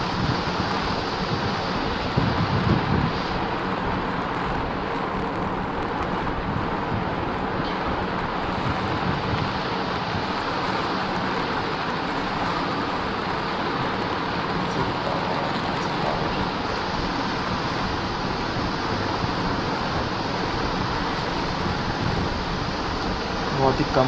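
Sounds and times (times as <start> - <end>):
motorcycle running: 0.0 - 24.0
wind rushing over microphone: 0.0 - 24.0.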